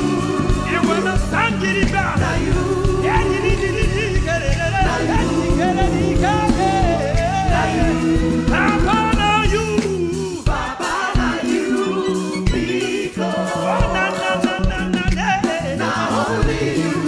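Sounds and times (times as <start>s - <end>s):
bass and drums beat: 0.0s - 17.0s
singers holding long notes: 0.0s - 17.0s.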